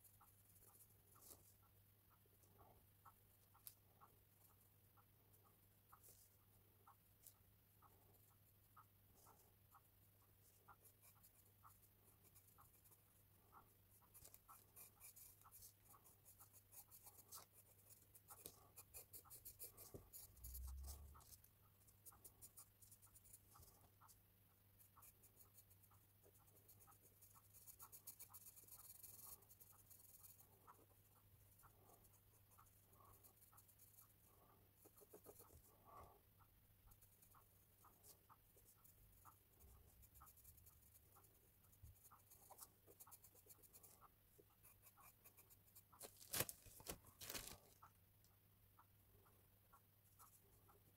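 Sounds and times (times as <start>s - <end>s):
pencil scratching on paper: 0.0s - 46.2s.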